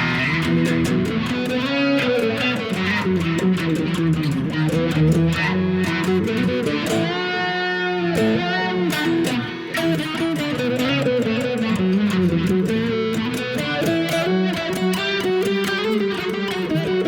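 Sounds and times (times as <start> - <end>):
overdriven electric guitar lead: 0.0 - 17.0.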